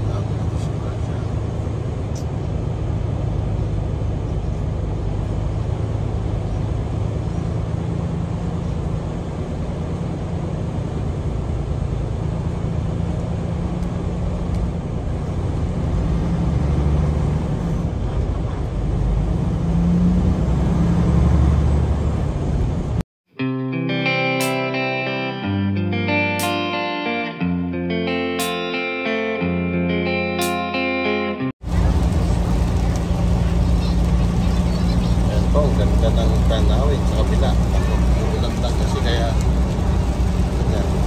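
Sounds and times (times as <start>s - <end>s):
truck engine drone: 0.0s - 23.0s, 23.8s - 41.0s
road noise: 0.0s - 23.1s, 23.9s - 41.0s.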